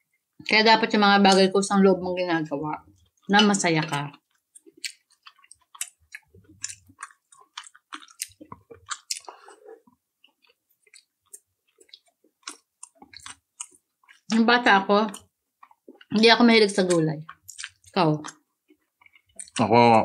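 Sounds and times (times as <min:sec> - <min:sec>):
person chewing: 0:02.2 - 0:14.4, 0:15.0 - 0:20.0.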